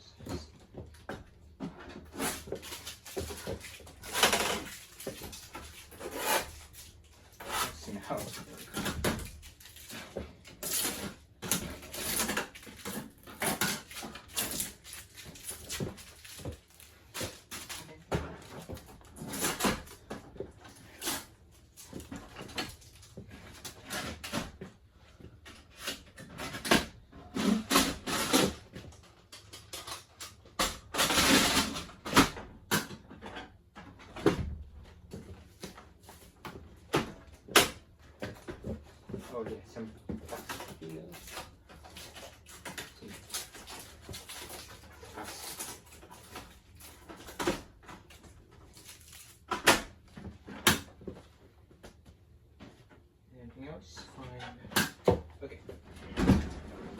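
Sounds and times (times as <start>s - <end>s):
packaging rustling and scraping: 0.4s - 24.8s, 25.4s - 32.4s, 35.0s - 51.4s.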